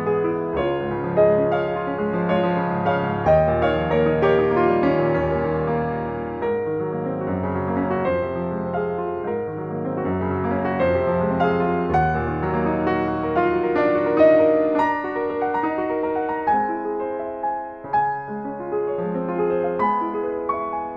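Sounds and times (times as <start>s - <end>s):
piano music: 0.0s - 20.9s.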